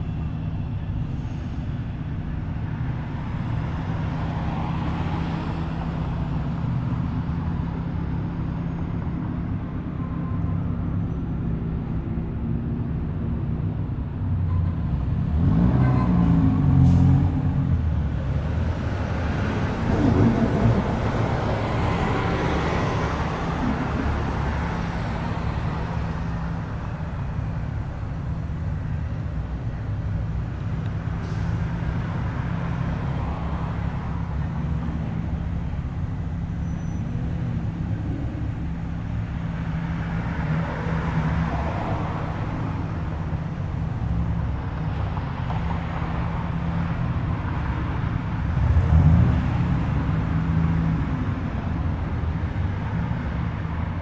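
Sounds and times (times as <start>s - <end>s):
cars passing slowly: 0.0s - 54.0s.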